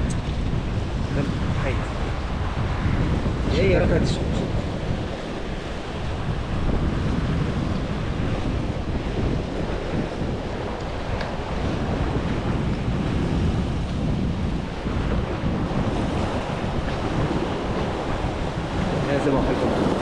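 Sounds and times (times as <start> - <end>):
sea waves: 0.0 - 20.0
wind buffeting microphone: 0.0 - 20.0.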